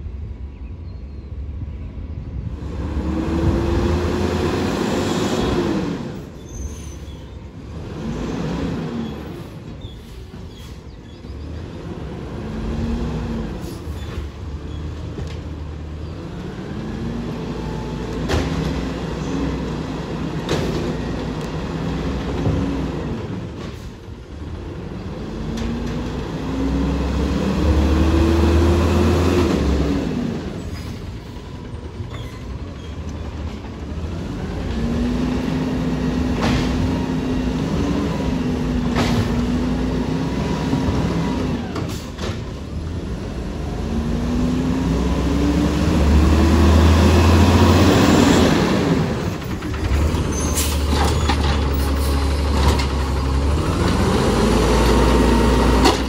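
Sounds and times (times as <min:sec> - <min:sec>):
diesel engine revving: 0:02.4 - 0:56.0.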